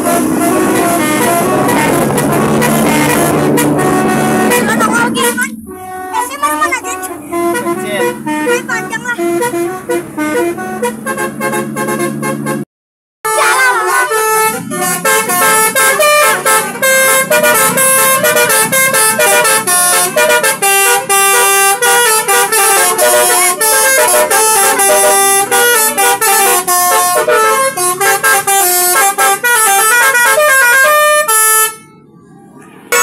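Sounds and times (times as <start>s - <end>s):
musical vehicle horn tune: 0.0s - 32.1s.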